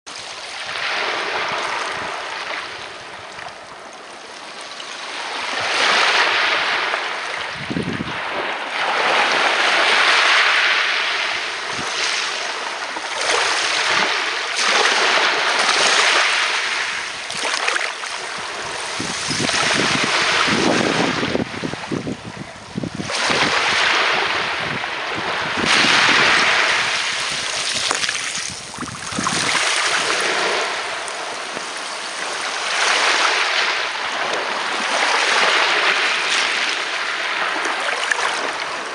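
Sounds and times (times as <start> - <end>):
sea waves breaking on beach: 0.1 - 38.9.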